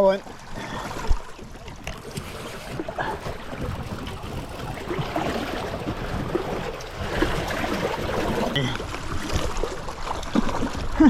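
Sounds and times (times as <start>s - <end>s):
water splashing against a raft: 0.0s - 11.0s.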